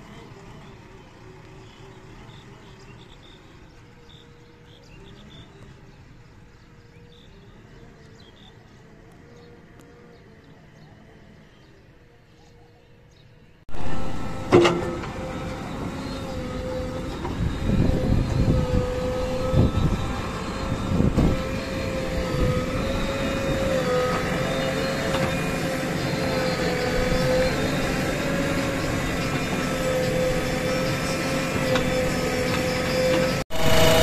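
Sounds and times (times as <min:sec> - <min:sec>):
diesel engine under load: 0:00.0 - 0:11.9, 0:13.5 - 0:34.0.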